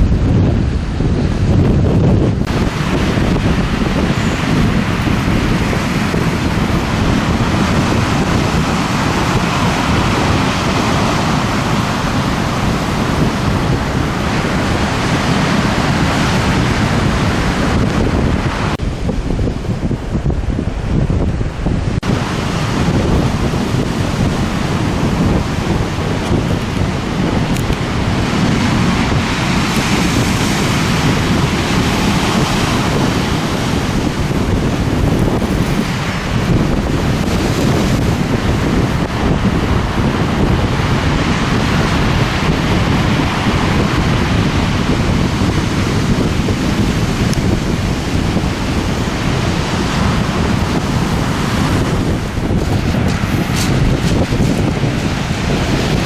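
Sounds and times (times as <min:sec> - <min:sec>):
storm surf breaking: 0:00.0 - 0:56.0
wind buffeting microphone: 0:00.0 - 0:56.0.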